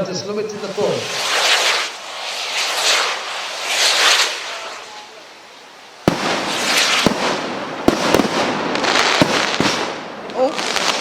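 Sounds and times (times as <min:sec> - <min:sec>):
firework bangs: 0:00.0 - 0:05.4, 0:06.0 - 0:11.0
firework rockets hissing: 0:00.0 - 0:11.0.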